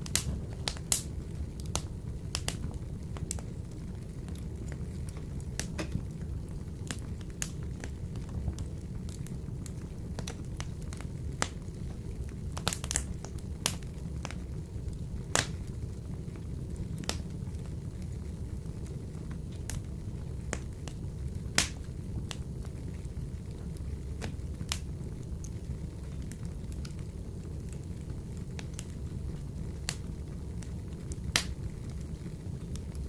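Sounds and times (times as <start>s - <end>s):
wood fire crackling in a stove: 0.0s - 33.0s.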